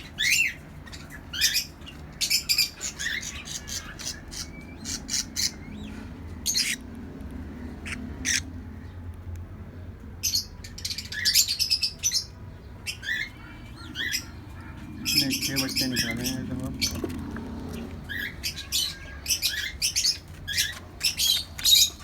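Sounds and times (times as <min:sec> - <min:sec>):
parrots chirping and squawking: 0:00.0 - 0:09.0, 0:10.2 - 0:22.0.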